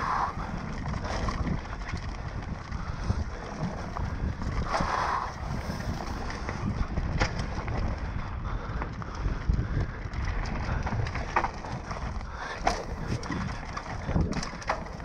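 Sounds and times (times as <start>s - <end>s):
bike chain and frame rattling: 0.0s - 15.0s
wind buffeting microphone: 0.0s - 15.0s.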